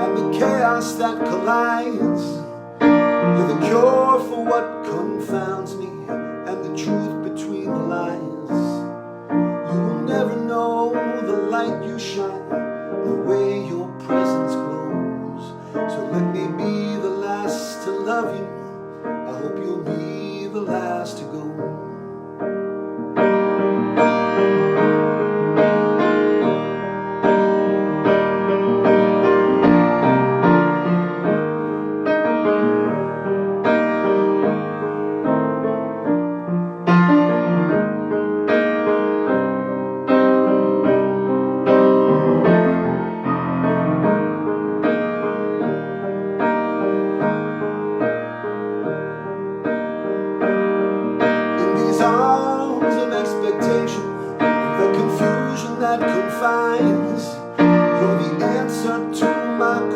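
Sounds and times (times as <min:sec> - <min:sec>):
solo piano ballad: 0:00.0 - 0:59.9.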